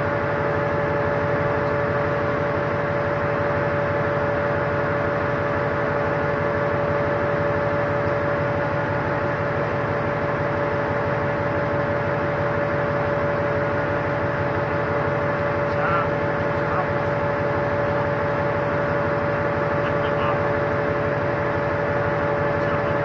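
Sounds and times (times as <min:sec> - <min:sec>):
ship machinery drone: 0:00.0 - 0:23.0.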